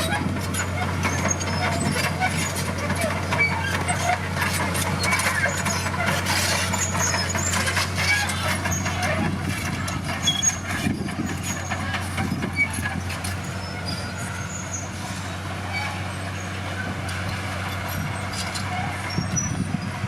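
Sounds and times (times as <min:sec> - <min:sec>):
short high squeaks: 0:00.0 - 0:19.9
diesel machinery engine hum: 0:00.0 - 0:20.0.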